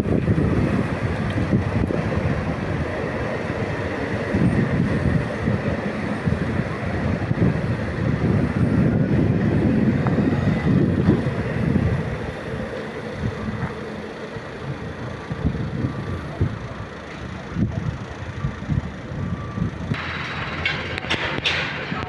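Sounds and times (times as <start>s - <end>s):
high electric whine: 0.0s - 22.0s
train wheels rumbling: 0.0s - 22.0s.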